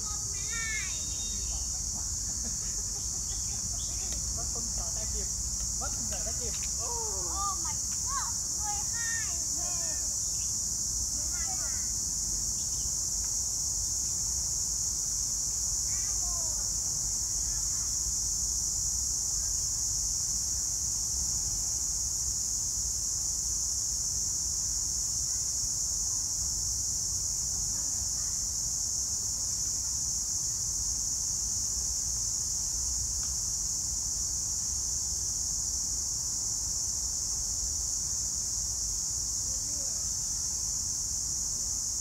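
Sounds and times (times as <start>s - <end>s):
insect chorus buzzing: 0.0s - 42.0s.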